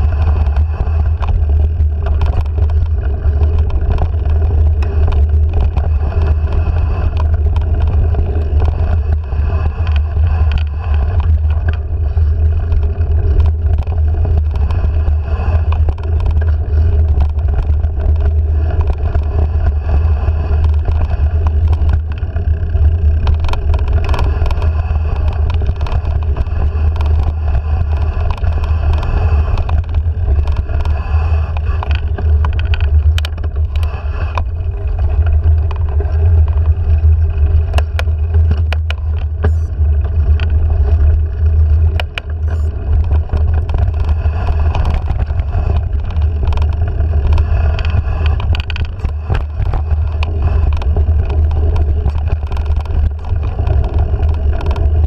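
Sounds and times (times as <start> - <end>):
bike rattling over bumps: 0.0 - 55.0
tyres on dirt: 0.0 - 55.0
wind on microphone: 0.0 - 55.0.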